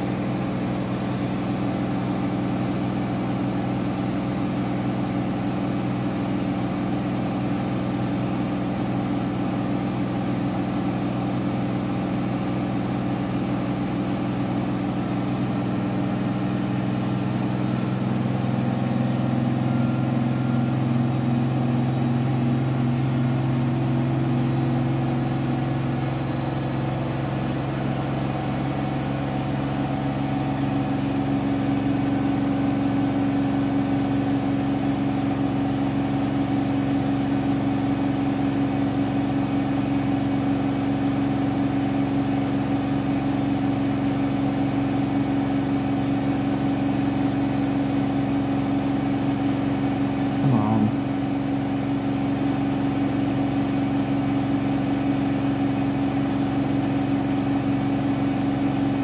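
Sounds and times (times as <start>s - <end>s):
washing machine spinning: 0.0s - 50.3s.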